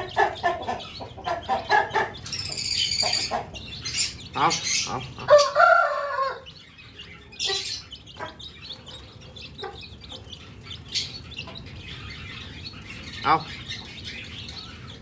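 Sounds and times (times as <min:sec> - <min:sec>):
birds clucking and chirping: 0:00.0 - 0:15.0.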